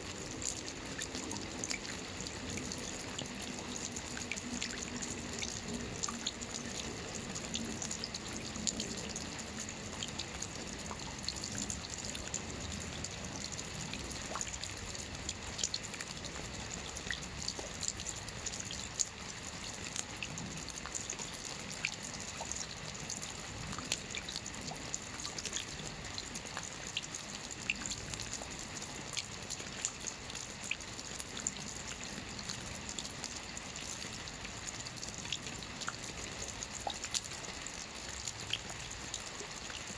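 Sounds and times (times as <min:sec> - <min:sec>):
rain hissing on a roof: 0:00.0 - 0:39.9
raindrop ticks: 0:00.4 - 0:39.9.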